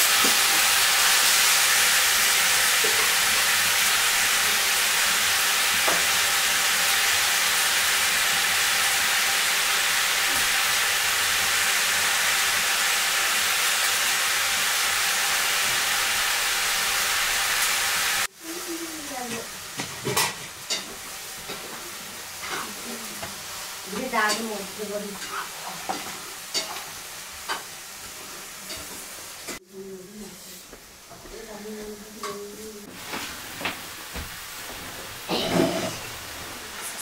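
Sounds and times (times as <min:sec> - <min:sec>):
food sizzling in a pan: 0:00.0 - 0:37.0.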